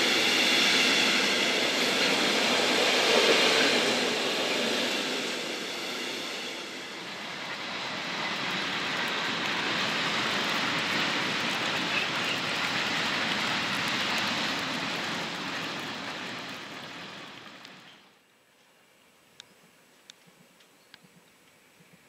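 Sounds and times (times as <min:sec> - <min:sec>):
train rushing along tracks: 0:00.0 - 0:18.3.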